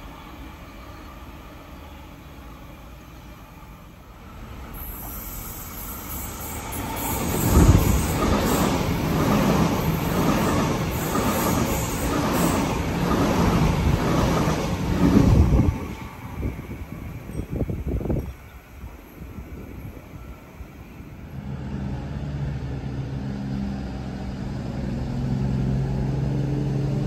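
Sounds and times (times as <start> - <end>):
electric train passing: 0.0 - 27.0
train wheels on track: 0.0 - 27.0.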